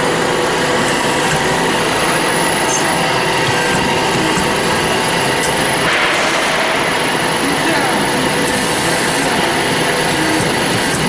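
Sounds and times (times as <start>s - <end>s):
band saw running: 0.0s - 11.0s.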